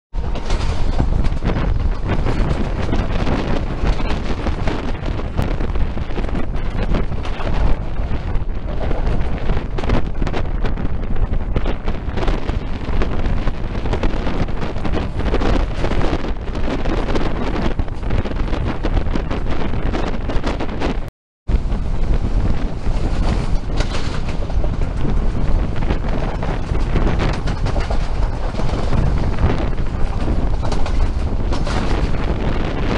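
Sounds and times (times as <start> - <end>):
train running noise: 0.1 - 32.9
wind buffeting microphone: 0.1 - 32.9.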